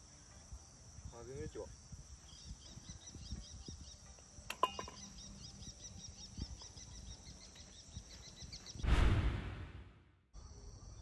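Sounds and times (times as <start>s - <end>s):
insects chirping: 0.0s - 8.8s, 10.3s - 11.0s.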